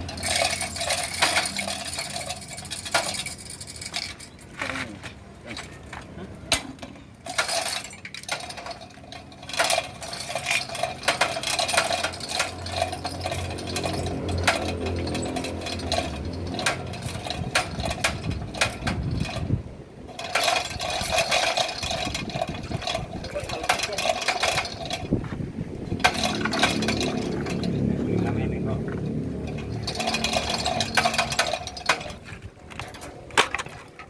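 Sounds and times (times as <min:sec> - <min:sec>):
metallic clicks and knocks: 0:00.0 - 0:04.5, 0:06.5 - 0:25.2, 0:25.9 - 0:34.0.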